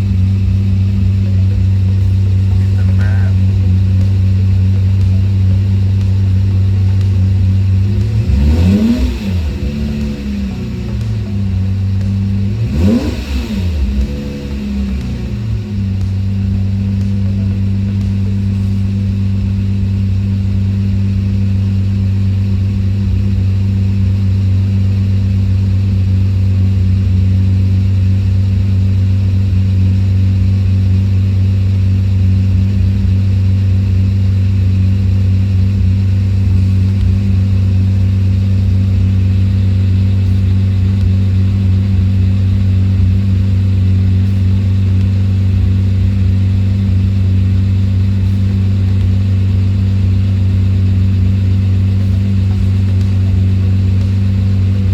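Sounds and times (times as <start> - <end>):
car engine running steadily: 0.0 - 54.9.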